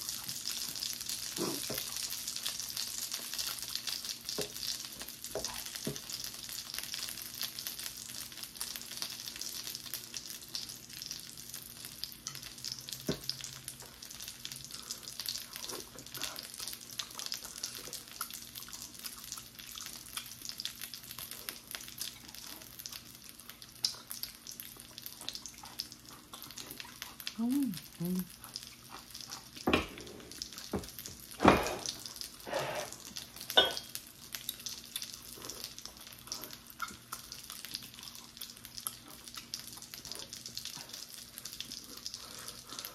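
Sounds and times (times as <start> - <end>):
dumplings sizzling in oil: 0.0 - 42.9.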